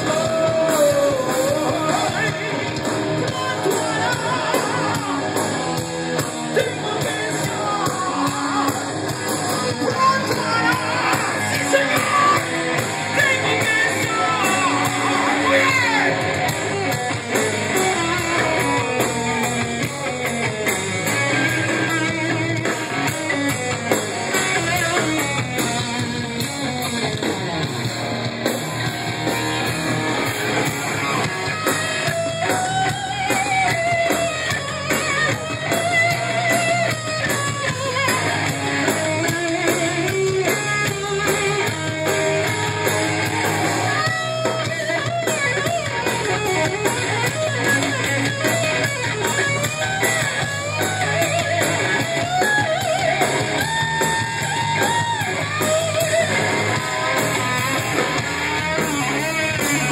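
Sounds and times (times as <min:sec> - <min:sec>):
live heavy metal band: 0:00.0 - 0:59.9
wavering lead guitar melody: 0:00.0 - 0:59.9.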